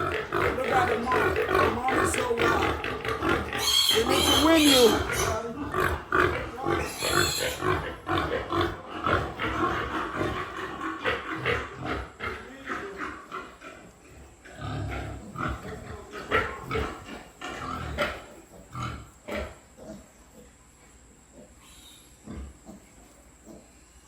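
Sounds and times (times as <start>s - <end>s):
pigs grunting: 0.0s - 24.0s.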